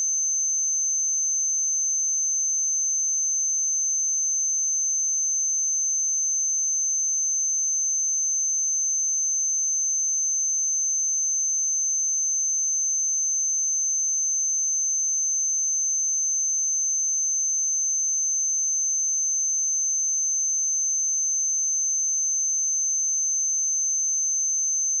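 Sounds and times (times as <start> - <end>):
high-pitched sine-wave test tone: 0.0 - 25.0.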